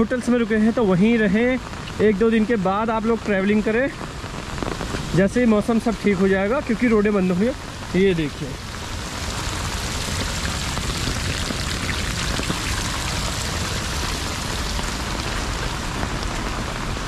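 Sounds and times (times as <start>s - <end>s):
rain falling: 0.0s - 17.0s
water rushing down rocky bank: 0.0s - 17.0s.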